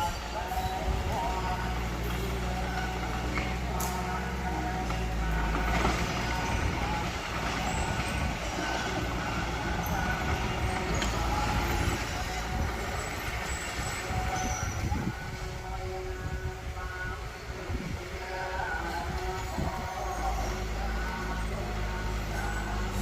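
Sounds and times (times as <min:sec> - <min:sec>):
bulldozer diesel engine rumbling: 0:00.0 - 0:23.0.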